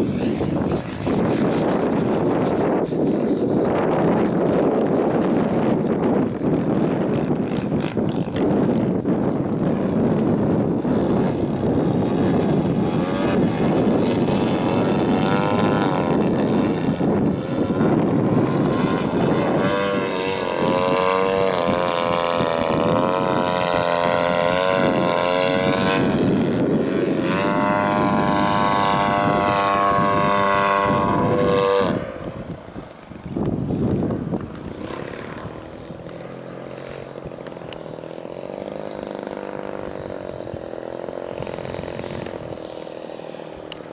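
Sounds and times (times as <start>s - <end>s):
model plane engine: 0.0s - 43.9s
wind noise: 0.0s - 43.9s.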